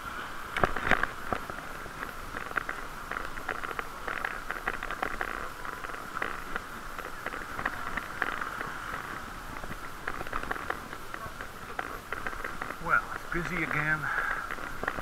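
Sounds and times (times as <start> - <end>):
bicycle hissing and rattling: 0.0 - 15.0.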